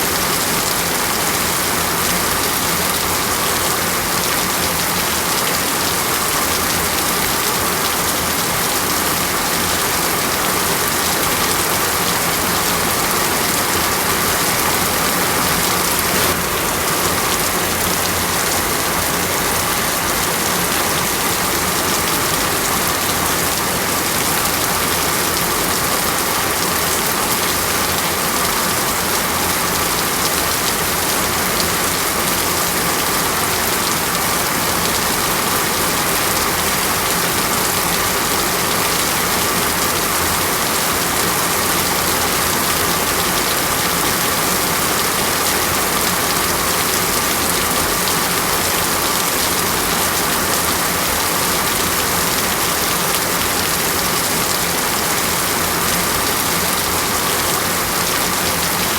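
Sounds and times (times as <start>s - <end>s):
heavy rain hissing: 0.0s - 58.9s.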